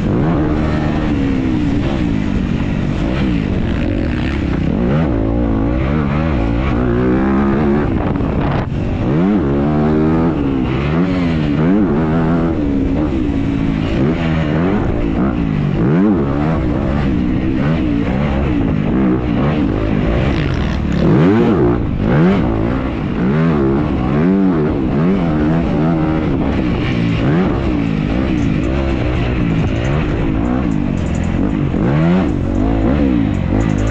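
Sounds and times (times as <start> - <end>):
dirt bike engine revving: 0.0 - 33.9.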